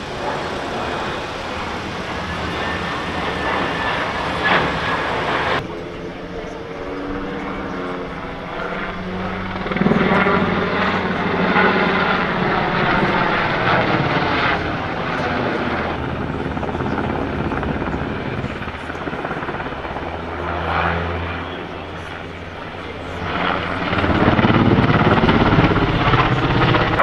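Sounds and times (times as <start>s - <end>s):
helicopter flying overhead: 0.0s - 27.0s.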